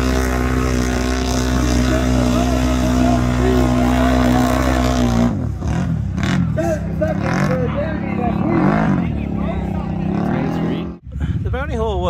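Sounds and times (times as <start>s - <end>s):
atv engine running wide open: 0.0s - 12.0s.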